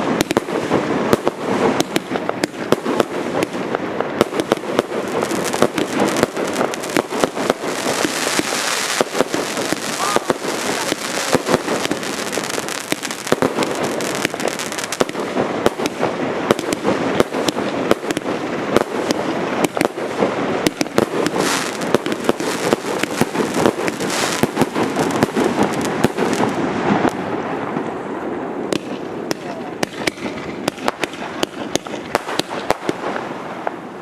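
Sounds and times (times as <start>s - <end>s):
fireworks crackling and popping: 0.0s - 34.0s
fireworks sharp bangs: 0.0s - 34.0s.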